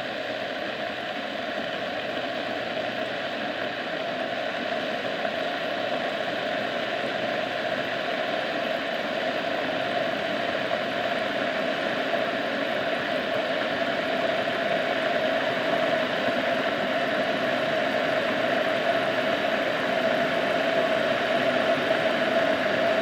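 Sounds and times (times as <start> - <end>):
kettle water bubbling: 0.2 - 23.0.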